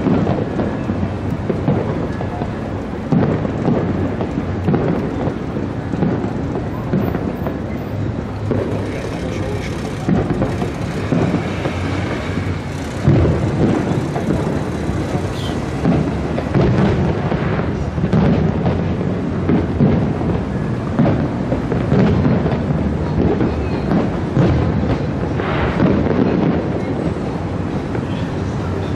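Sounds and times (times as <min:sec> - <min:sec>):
fireworks booming: 0:00.0 - 0:28.9.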